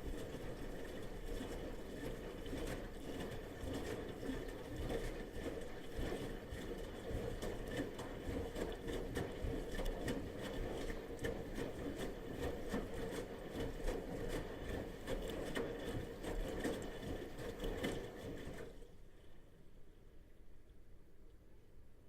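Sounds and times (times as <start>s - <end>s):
washing machine drum sloshing: 0.0s - 19.0s
faint motor whine: 0.0s - 22.0s.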